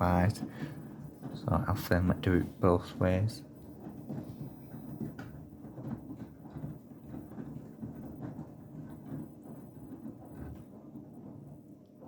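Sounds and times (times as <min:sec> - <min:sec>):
washing machine drum turning: 0:00.0 - 0:12.0.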